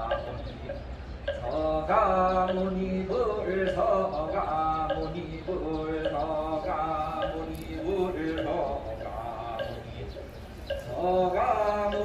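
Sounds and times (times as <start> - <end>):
ceremonial chanting voices: 0.0 - 12.0.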